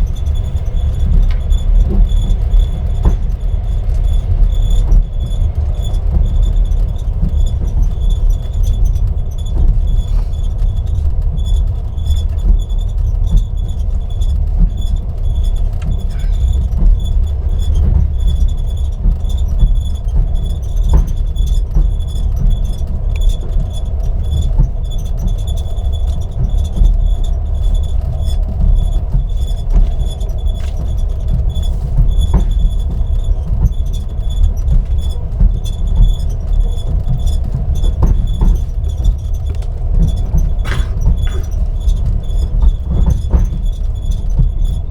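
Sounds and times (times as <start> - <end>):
train wheels rumbling: 0.0 - 44.9.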